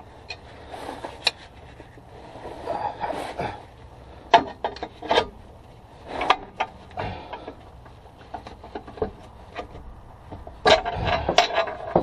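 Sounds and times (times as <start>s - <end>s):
scraping and rubbing on creeper: 0.0s - 12.0s.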